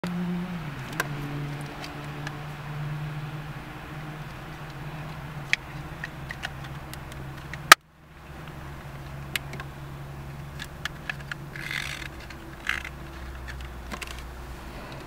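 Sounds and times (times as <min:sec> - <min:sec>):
car cabin engine hum: 0:00.0 - 0:15.0.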